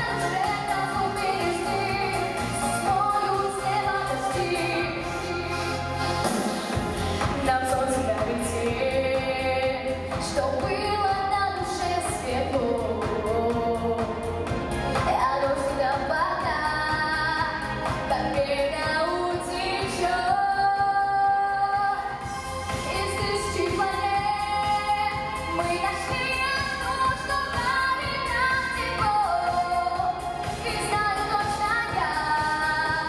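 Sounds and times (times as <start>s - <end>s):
pop backing track with low beat: 0.0s - 33.0s
woman singing: 0.0s - 33.0s.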